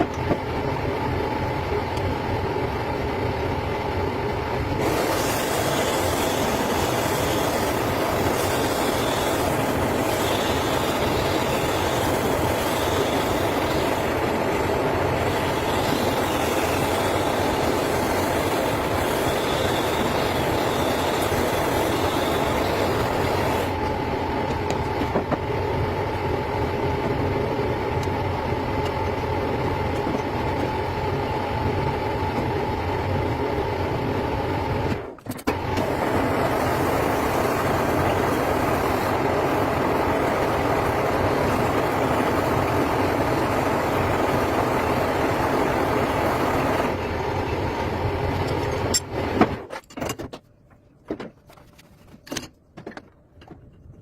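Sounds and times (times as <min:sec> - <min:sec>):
steady mechanical running noise: 0:00.0 - 0:54.0.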